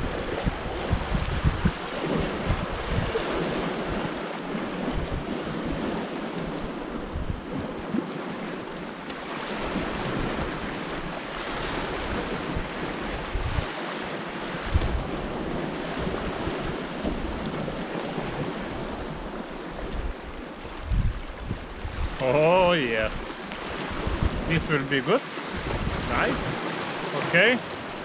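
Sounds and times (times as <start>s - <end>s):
waves against rocky shore: 0.0s - 28.0s
wind on microphone: 0.0s - 28.0s.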